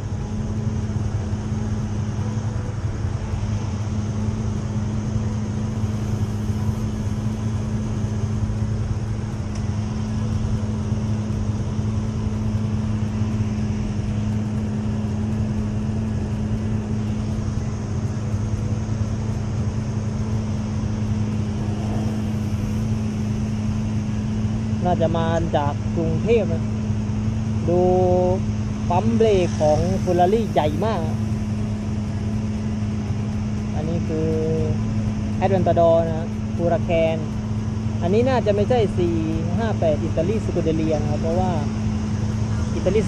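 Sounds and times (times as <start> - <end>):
road traffic noise: 0.0 - 43.0
vehicle engines idling: 0.0 - 43.0.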